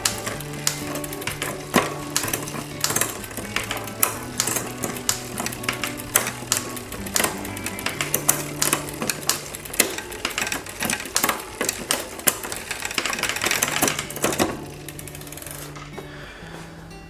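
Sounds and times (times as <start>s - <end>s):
bicycle chain clicking: 0.0s - 16.2s.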